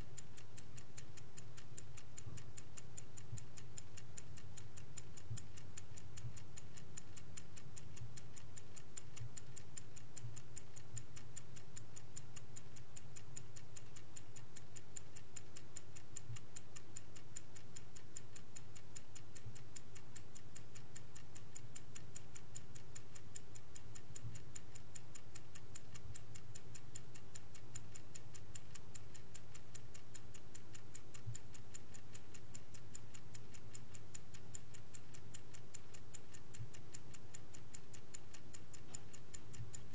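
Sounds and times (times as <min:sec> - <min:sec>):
mechanical clock ticking: 0:00.0 - 0:39.9.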